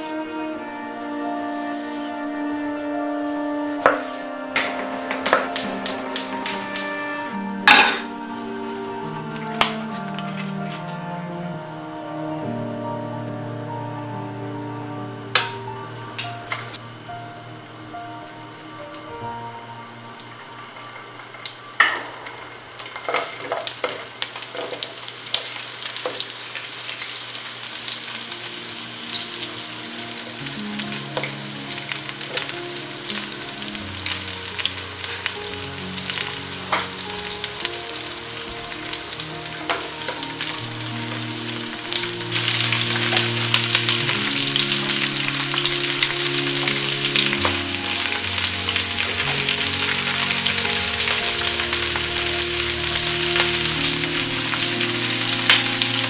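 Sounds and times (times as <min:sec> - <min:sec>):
vegetables sizzling in oil: 0:02.9 - 0:09.0, 0:16.3 - 0:56.0.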